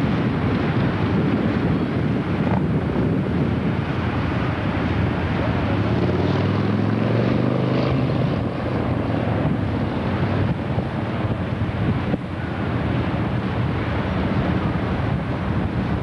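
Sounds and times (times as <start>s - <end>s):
steady motor drone: 0.0s - 16.0s
wind noise on microphone: 0.0s - 16.0s.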